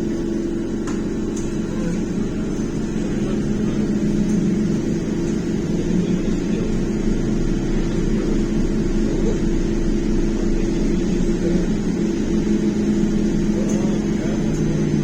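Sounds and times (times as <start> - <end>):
electric drive hum: 0.0 - 15.0.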